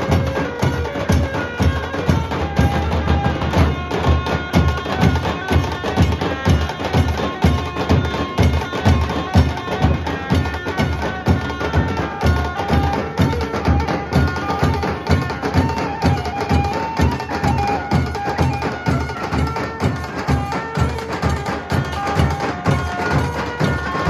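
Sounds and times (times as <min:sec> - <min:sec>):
barrel drums beaten with sticks: 0:00.0 - 0:24.0
held melody: 0:00.0 - 0:24.0.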